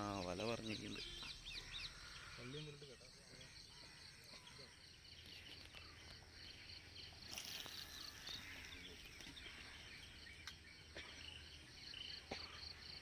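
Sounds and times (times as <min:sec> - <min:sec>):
bird chirps: 0:00.0 - 0:13.0
insects chirping: 0:00.0 - 0:13.0.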